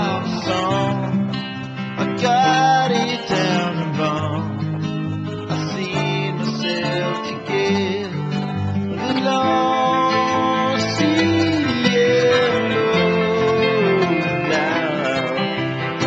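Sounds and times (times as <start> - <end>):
held melody notes: 0.0 - 16.0
strummed acoustic guitar song: 0.0 - 16.0.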